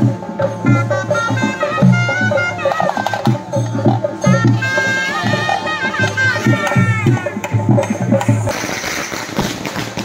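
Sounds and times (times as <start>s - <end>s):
high wavering melody: 0.0s - 8.4s
drums beating steady rhythm: 0.0s - 10.0s.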